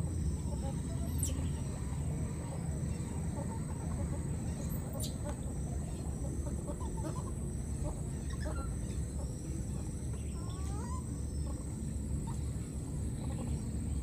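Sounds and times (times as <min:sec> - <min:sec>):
animal clucks and chirps: 0:00.0 - 0:14.0.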